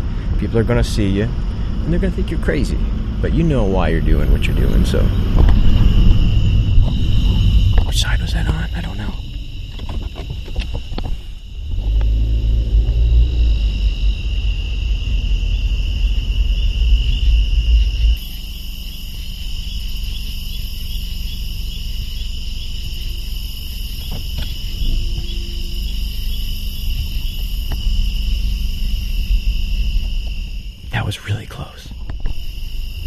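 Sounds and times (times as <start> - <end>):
car rumble: 0.0 - 33.0
night insects trilling: 0.0 - 33.0.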